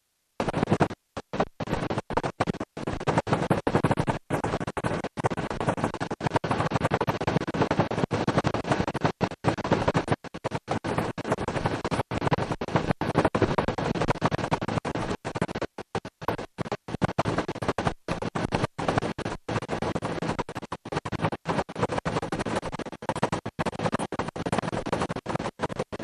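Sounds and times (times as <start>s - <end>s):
helicopter engine and rotor rush: 0.4s - 26.0s.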